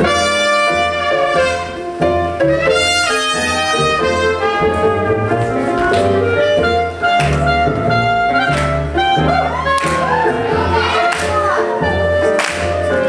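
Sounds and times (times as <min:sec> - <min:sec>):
bass line: 0:00.0 - 0:13.0
horn melody: 0:00.0 - 0:13.0
jazz band playing: 0:00.0 - 0:13.0.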